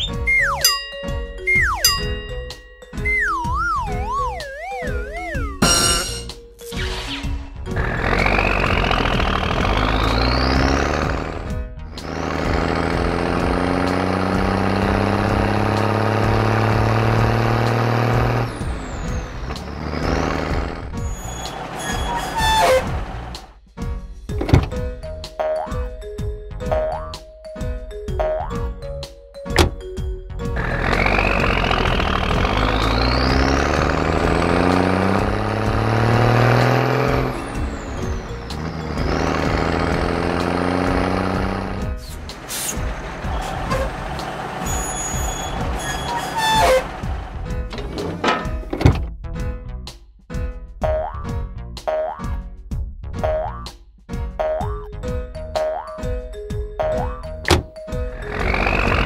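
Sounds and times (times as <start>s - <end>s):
cartoon garbage truck engine drone: 0.0s - 23.6s, 29.5s - 49.1s, 54.4s - 59.0s.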